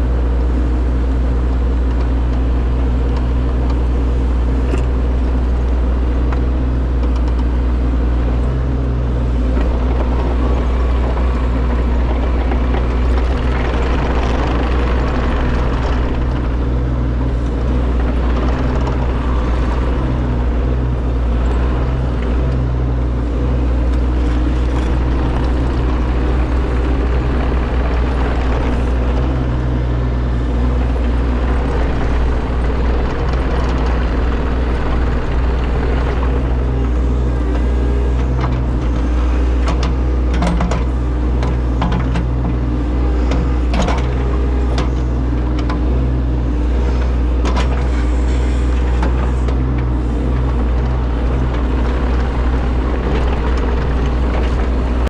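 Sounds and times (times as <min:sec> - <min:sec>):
loud diesel engine running: 0:00.0 - 0:55.0.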